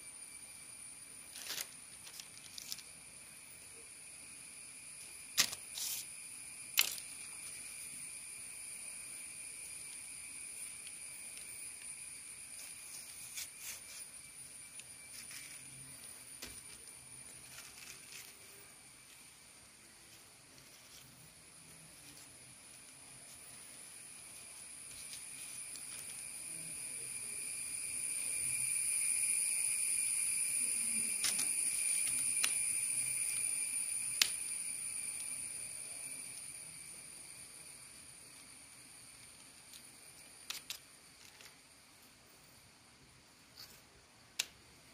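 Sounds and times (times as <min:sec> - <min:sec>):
high-pitched insect trill: 0:00.0 - 0:44.9
steady high-pitched whine: 0:00.0 - 0:44.9.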